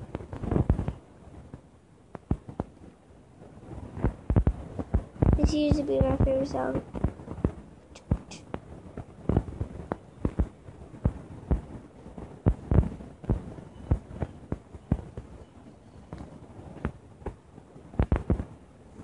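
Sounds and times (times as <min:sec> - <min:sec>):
dull thumps and pops: 0:00.0 - 0:02.8, 0:03.9 - 0:15.3, 0:16.1 - 0:18.6.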